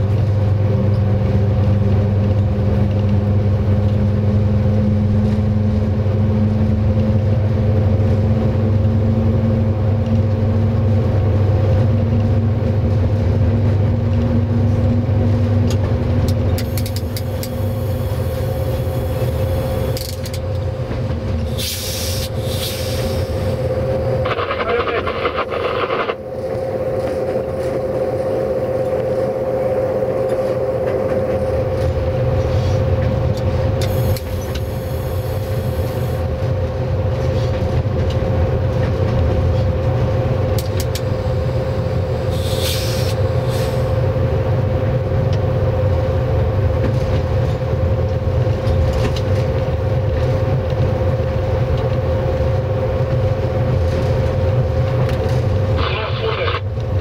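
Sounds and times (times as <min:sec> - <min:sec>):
electric locomotive humming: 0:00.0 - 0:57.0.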